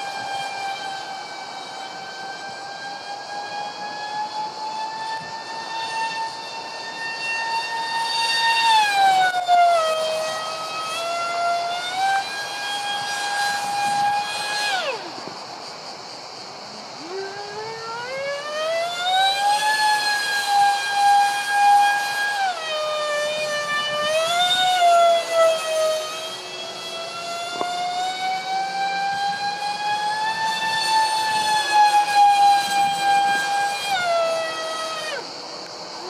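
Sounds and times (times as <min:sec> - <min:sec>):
ducted fan jet high whine: 0:00.0 - 0:36.0.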